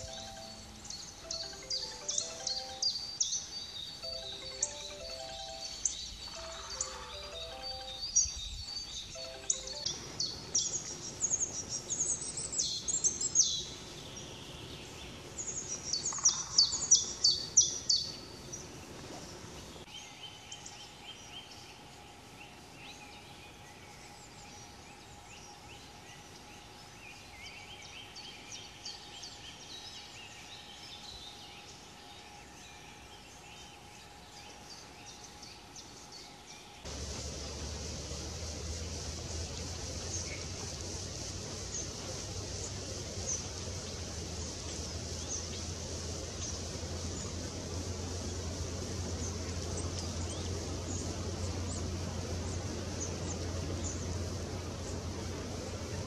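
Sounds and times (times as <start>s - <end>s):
faint steady hum: 0.0s - 56.0s
songbirds singing: 0.0s - 56.0s.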